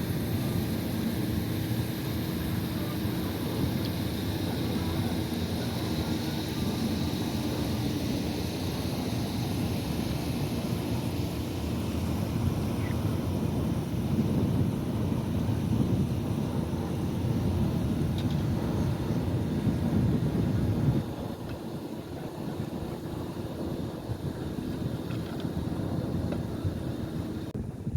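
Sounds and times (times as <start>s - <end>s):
wind noise on microphone: 0.0s - 27.9s.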